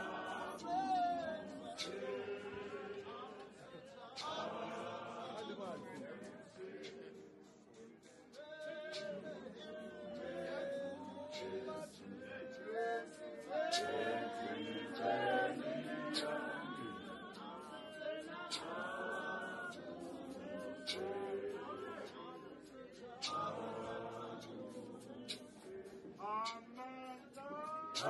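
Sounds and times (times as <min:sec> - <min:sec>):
congregation singing a hymn: 0:00.0 - 0:28.0.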